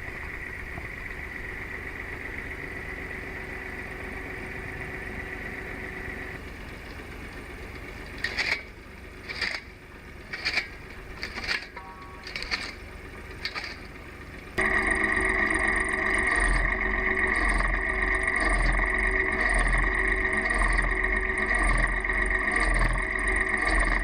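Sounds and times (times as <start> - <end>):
machine running with high whine: 0.0 - 24.0.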